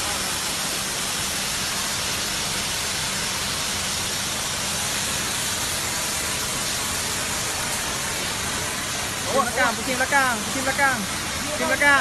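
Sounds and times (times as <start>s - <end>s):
hose spraying water: 0.0s - 12.0s.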